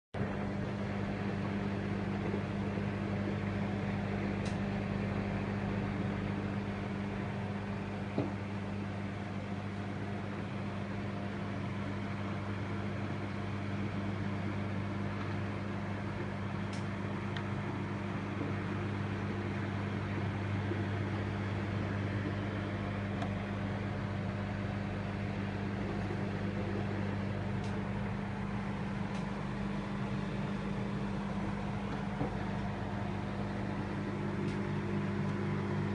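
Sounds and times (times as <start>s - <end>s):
microwave oven humming: 0.2s - 35.9s.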